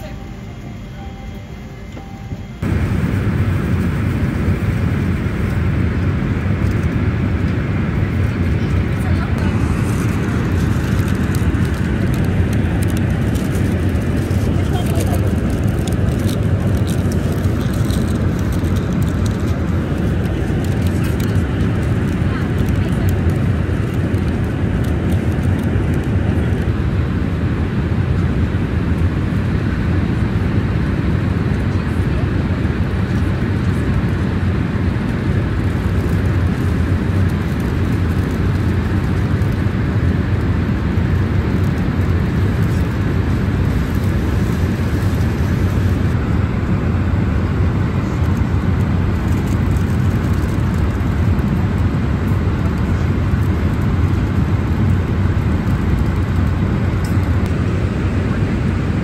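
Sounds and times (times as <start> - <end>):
airflow over fuselage: 0.0 - 59.0
airplane cabin low rumble: 0.0 - 59.0
jet engines droning: 0.0 - 59.0.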